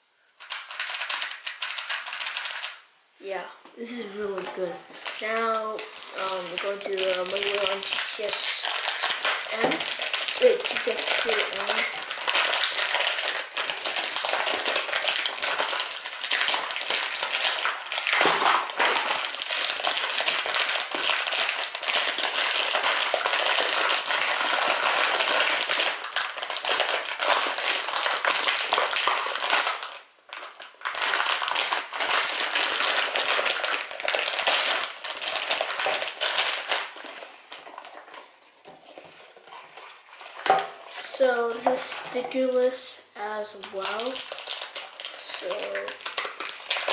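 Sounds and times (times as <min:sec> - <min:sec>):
plastic bag crinkling: 0:03.8 - 0:46.9.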